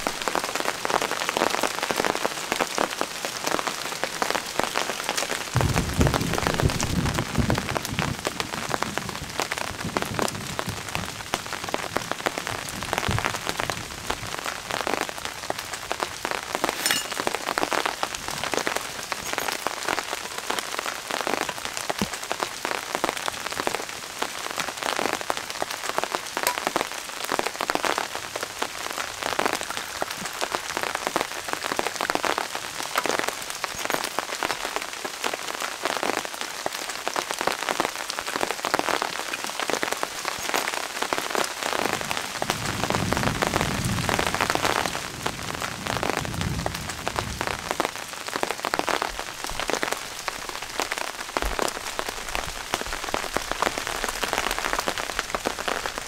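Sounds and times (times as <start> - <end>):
rain on leaves and tarpaulin: 0.0 - 56.0.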